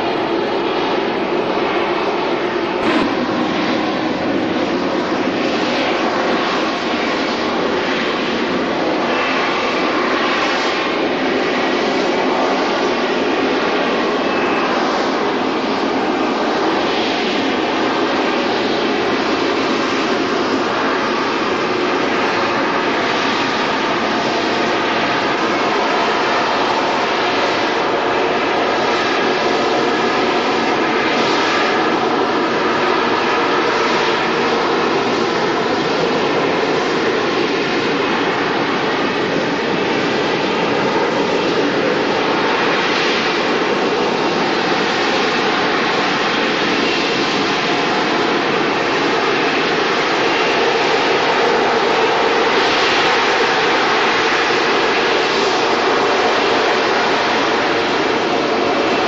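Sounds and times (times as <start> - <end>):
jet aircraft engine noise: 0.0 - 59.0.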